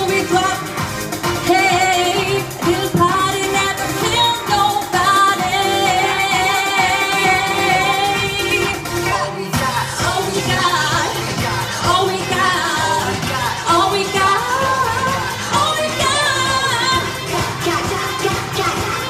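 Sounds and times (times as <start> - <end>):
steady beat: 0.0 - 19.0.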